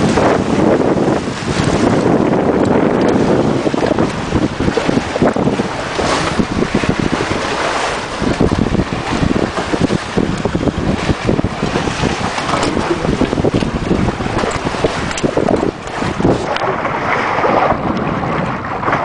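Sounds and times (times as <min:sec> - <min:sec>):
water rushing past hulls: 0:00.0 - 0:19.0
wind buffeting microphone: 0:00.0 - 0:19.0.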